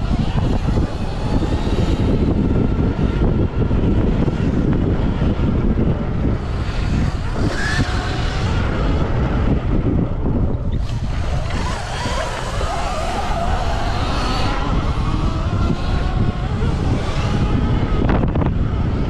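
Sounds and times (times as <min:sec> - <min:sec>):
electric motor whine: 0:00.0 - 0:19.0
tyre and dirt noise: 0:00.0 - 0:19.0
wind buffeting microphone: 0:00.0 - 0:19.0.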